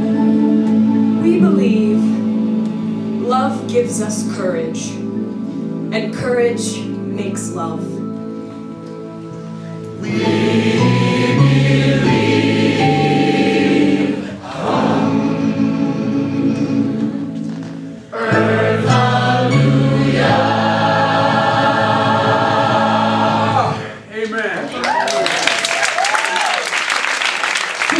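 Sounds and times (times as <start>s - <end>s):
gospel choir singing: 0.0s - 24.1s.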